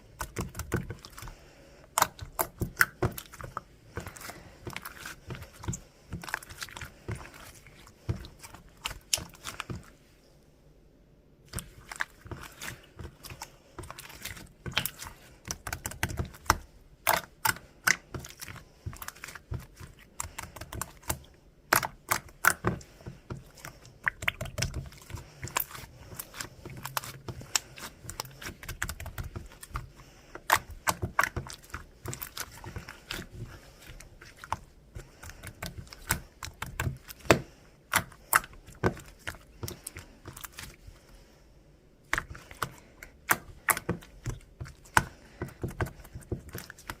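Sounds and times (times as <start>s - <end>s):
slime squishing with clicks: 0.0s - 10.0s, 11.4s - 41.3s, 42.0s - 47.0s.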